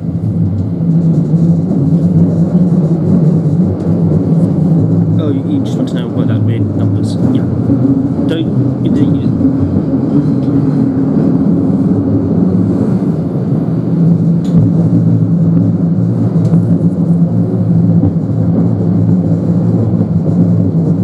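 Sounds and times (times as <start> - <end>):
train running gear rumble: 0.0 - 21.0.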